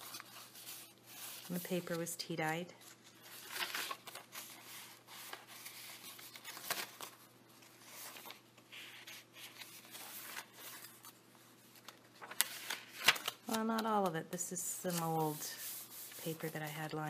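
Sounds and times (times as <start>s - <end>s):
paper pages rustling: 0.0s - 2.2s, 2.8s - 14.1s, 14.8s - 17.0s.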